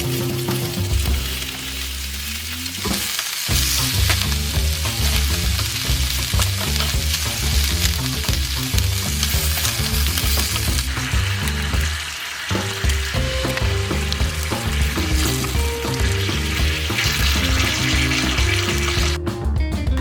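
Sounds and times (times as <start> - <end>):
campfire crackling and popping: 0.0 - 19.2.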